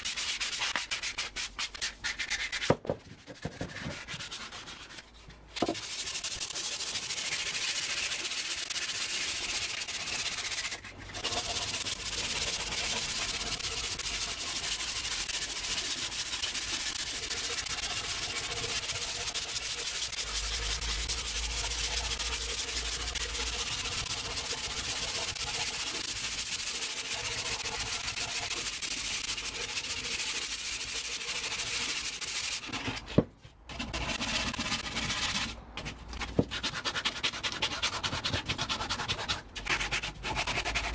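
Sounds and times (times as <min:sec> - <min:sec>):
sandpaper rasping on wood: 0:00.0 - 0:02.7, 0:05.8 - 0:32.7, 0:33.7 - 0:35.6, 0:36.2 - 0:40.9.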